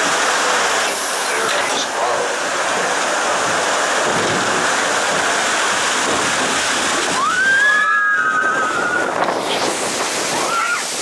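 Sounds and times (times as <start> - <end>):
water rushing in flume channel: 0.0 - 11.0.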